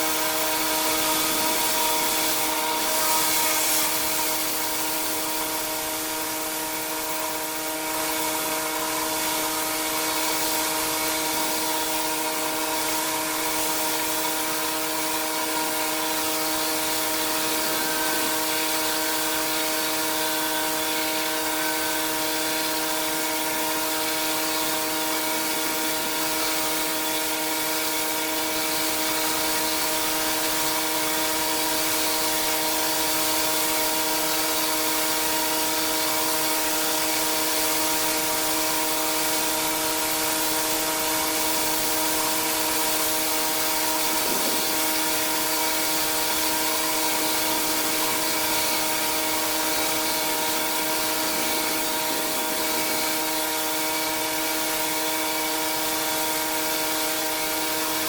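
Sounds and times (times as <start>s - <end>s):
high-pressure water spraying: 0.0s - 58.0s
pressure washer hum: 0.0s - 58.0s.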